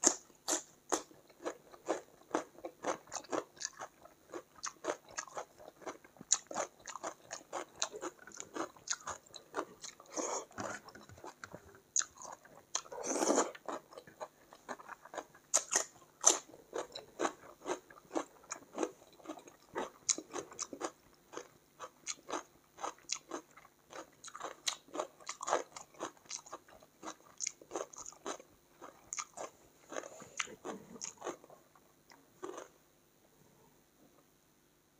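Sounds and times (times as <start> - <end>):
person chewing food: 0.0 - 32.7.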